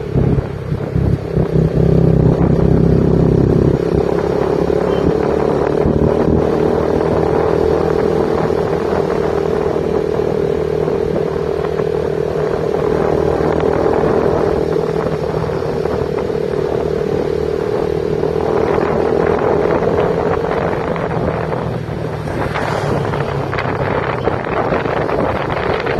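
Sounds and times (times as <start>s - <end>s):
motorcycle engine running: 0.0s - 25.9s
wind noise on microphone: 0.0s - 25.9s.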